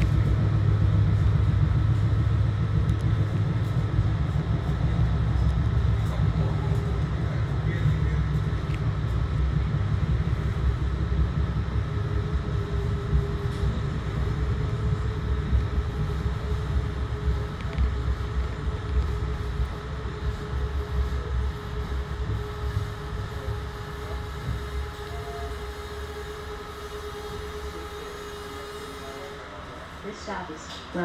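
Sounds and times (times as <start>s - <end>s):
train coach rumbling on track: 0.0s - 31.0s.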